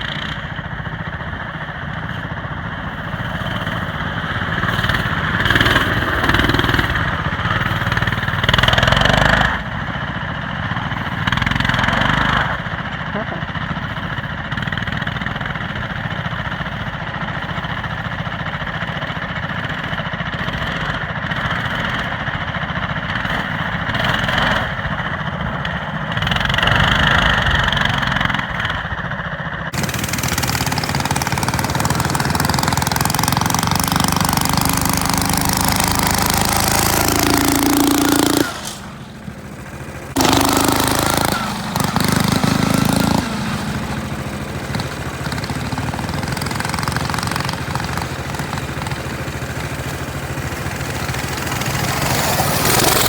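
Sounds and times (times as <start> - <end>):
minibike engine running: 0.0 - 53.0.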